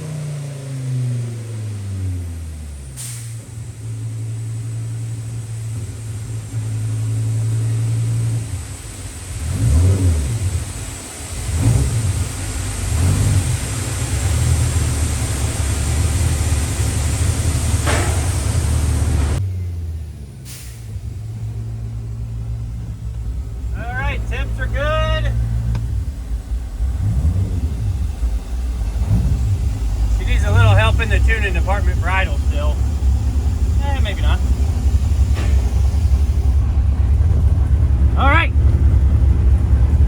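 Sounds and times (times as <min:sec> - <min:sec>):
engine throttle blips: 0:00.0 - 0:40.0
race car engine running: 0:00.0 - 0:40.0.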